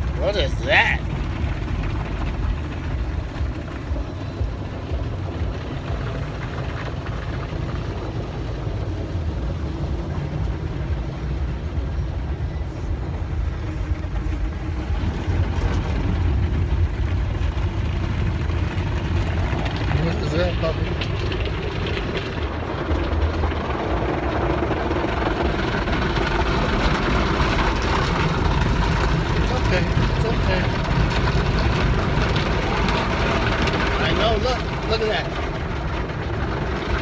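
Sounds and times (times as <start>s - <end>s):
car wash water and machinery: 0.0s - 37.0s.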